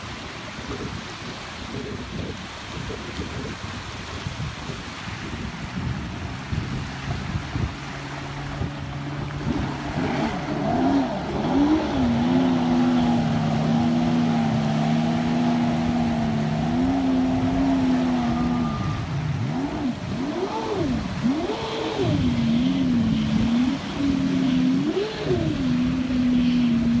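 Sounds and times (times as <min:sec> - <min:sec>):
wind and water noise: 0:00.0 - 0:27.0
jet ski engine revving: 0:04.6 - 0:27.0.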